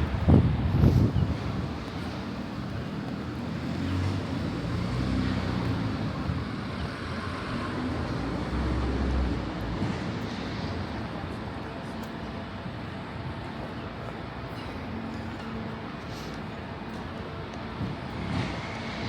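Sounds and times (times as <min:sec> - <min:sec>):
rumble of passing traffic: 0:00.0 - 0:19.0.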